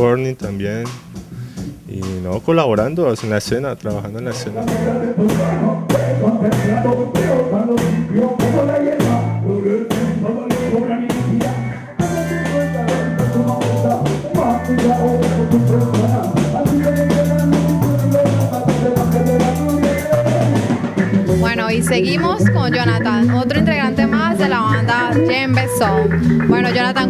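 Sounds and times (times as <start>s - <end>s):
bass line: 0.0s - 27.0s
drum kit beat: 0.0s - 27.0s
reggae band playing: 0.0s - 27.0s
person singing into a microphone: 4.2s - 27.0s
electric guitar: 4.7s - 27.0s.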